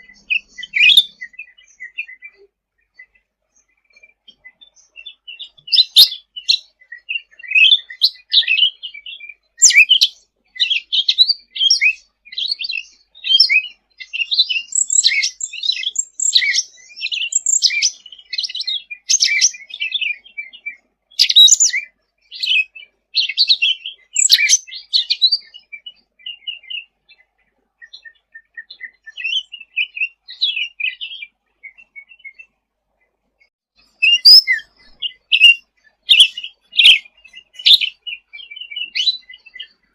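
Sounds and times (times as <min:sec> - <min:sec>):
songbird chattering chirps and trills: 0:00.0 - 0:32.6, 0:33.8 - 0:39.9.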